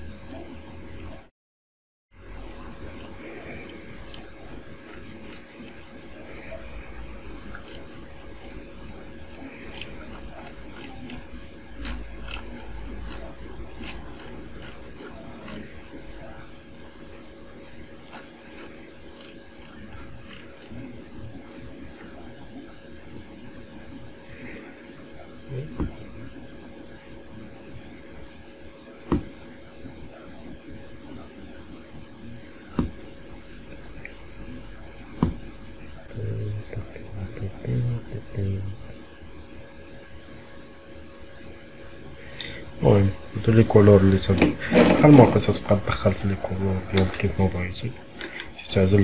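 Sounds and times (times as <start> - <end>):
cooling fans whirring: 0.0 - 1.3, 2.1 - 49.0
steady low hum: 0.0 - 1.3, 2.1 - 49.0.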